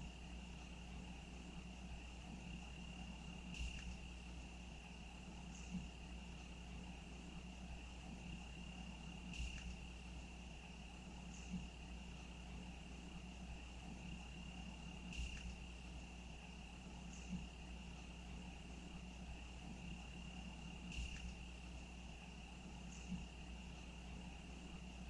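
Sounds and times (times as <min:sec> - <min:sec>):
cricket trilling: 0:00.0 - 0:25.0.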